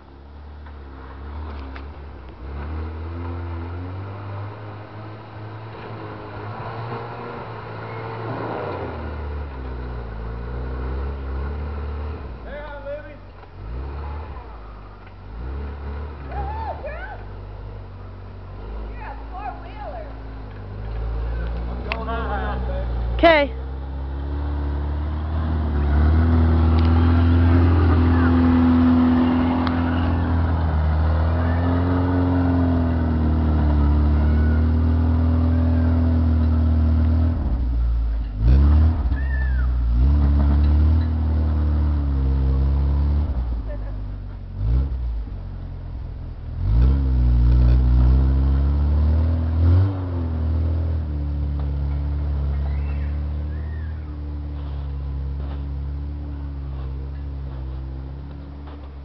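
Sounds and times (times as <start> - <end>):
suv engine revving under load: 0.6 - 59.0.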